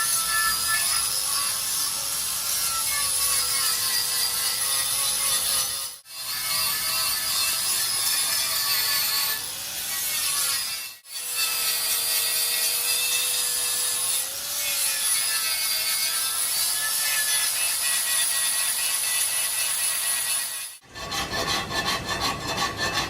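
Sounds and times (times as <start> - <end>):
angle grinder grinding metal: 0.0 - 23.0.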